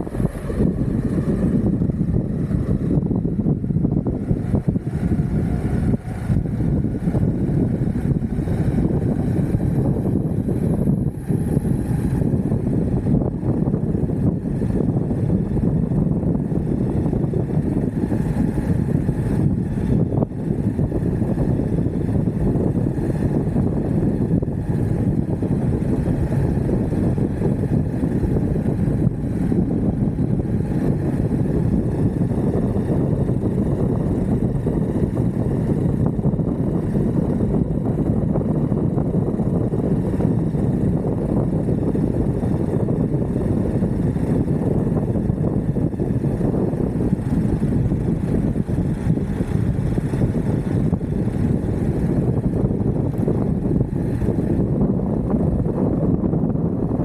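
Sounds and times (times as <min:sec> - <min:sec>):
wind on microphone: 0:00.0 - 0:57.0
skateboard wheels rolling on road: 0:00.1 - 0:57.0.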